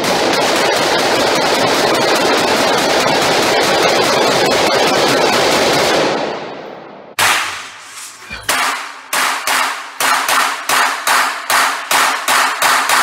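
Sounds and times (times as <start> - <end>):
gunshots echoing indoors: 0.0 - 13.0.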